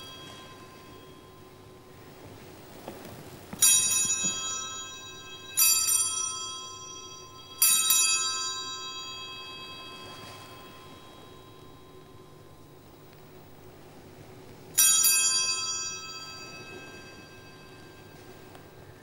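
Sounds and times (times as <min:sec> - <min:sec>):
altar bell ringing: 0:00.0 - 0:13.6, 0:14.7 - 0:19.0.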